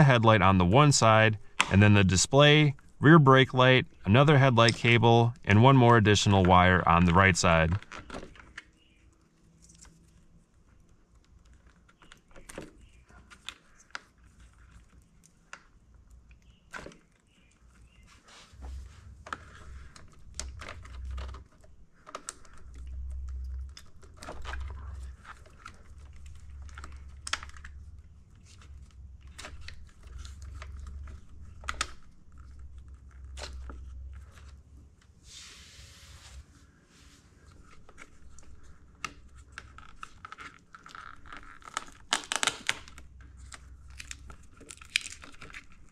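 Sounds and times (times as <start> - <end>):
cables rustling: 3.6 - 45.9.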